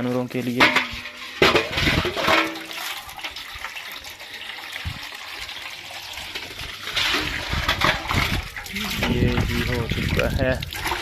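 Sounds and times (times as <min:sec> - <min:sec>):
water splashing from hose: 0:00.0 - 0:11.0.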